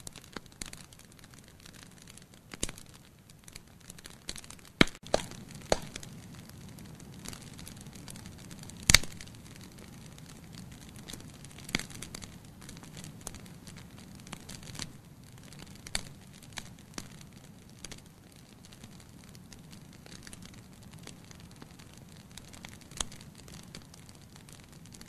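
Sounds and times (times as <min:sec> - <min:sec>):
firewood crackling and popping: 0:00.0 - 0:25.0
low noise of flames: 0:00.0 - 0:25.0.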